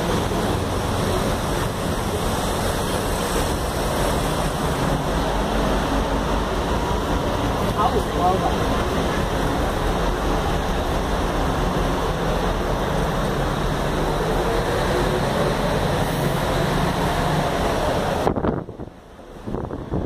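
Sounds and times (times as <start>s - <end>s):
bus road and engine noise: 0.0s - 20.0s.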